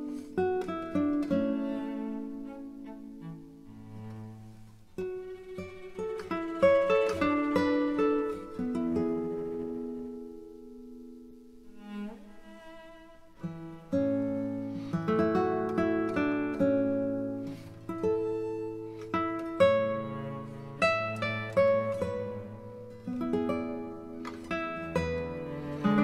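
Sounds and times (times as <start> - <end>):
plucked acoustic guitar melody: 0.0 - 26.0.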